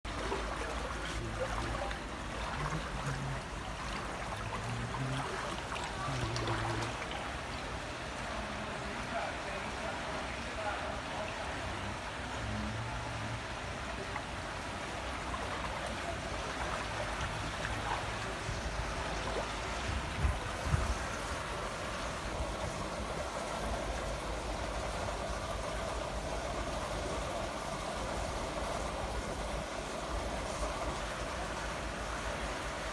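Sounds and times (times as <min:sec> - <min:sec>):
floodwater sloshing and trickling: 0:00.1 - 0:32.9
small water splashes: 0:00.1 - 0:32.9.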